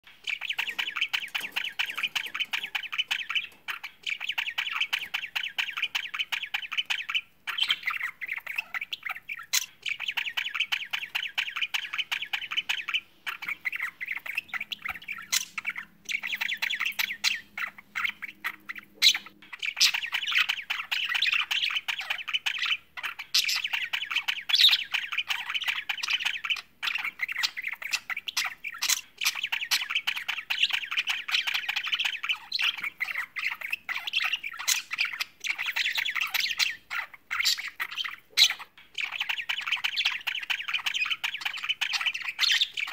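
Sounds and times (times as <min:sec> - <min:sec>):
budgerigars warbling and chattering: 0:00.0 - 0:42.9.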